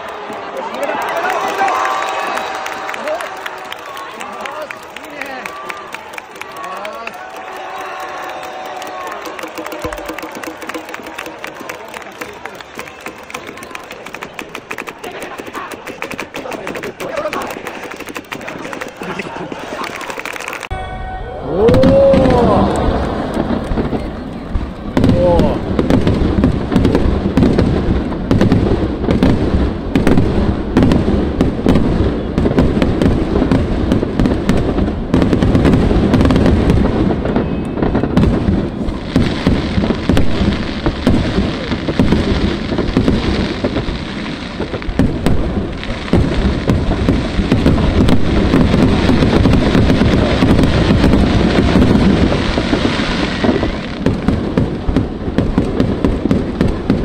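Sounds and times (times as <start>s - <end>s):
fireworks barrage: 0.2s - 57.0s.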